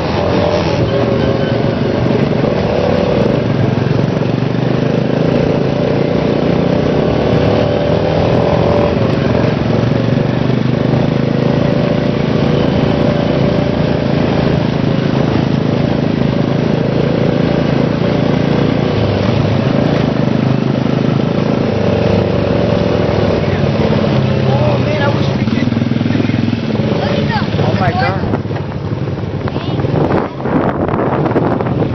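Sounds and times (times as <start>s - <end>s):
dirt bike engine running: 0.0s - 31.9s.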